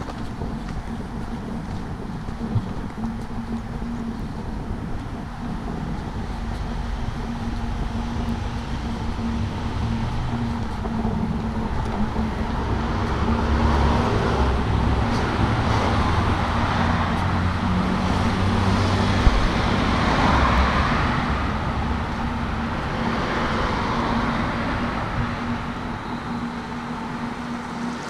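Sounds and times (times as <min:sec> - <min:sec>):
cars passing: 0:00.0 - 0:28.0
low engine hum: 0:00.0 - 0:28.0.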